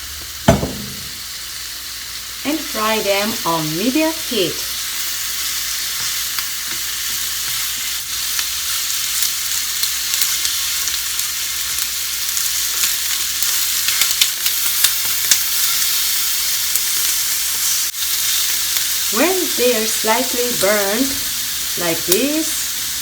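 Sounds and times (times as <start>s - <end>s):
chicken frying in oil: 0.0s - 23.0s.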